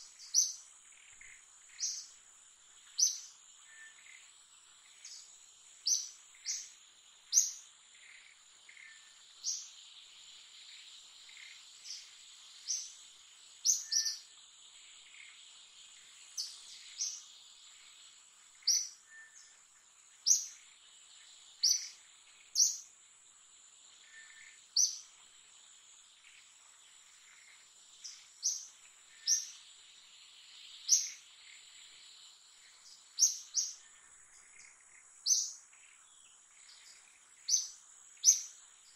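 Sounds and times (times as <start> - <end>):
bird chirping: 0.0 - 23.0, 23.7 - 38.9.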